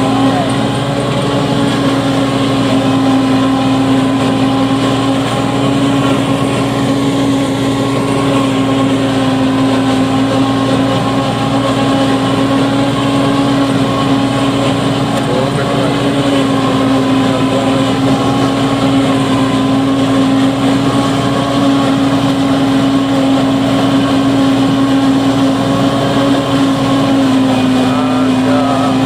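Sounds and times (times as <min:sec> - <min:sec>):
forage harvester chopping corn: 0:00.0 - 0:29.0
tractor engine under load: 0:00.0 - 0:29.0.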